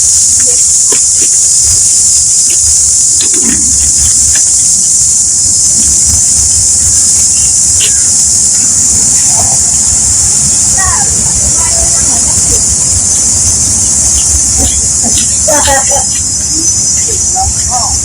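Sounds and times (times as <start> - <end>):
insects chorus hissing: 0.0 - 18.0.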